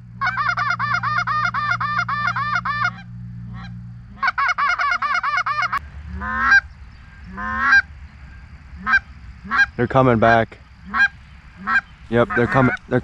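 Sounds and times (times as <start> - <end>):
goose call honking clucks: 0.0 - 7.9, 8.8 - 13.0
long rising honks: 0.0 - 13.0.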